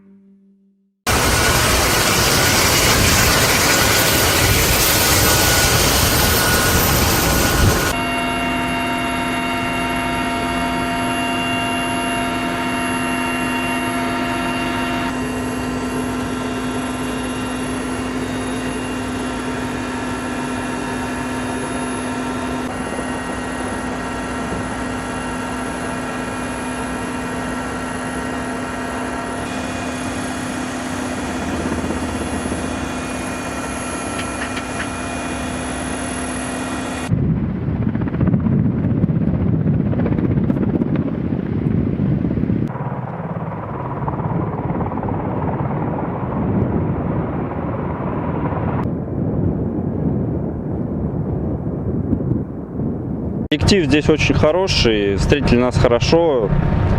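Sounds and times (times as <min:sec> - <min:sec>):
helicopter running: 0:01.1 - 0:52.8, 0:53.5 - 0:56.9.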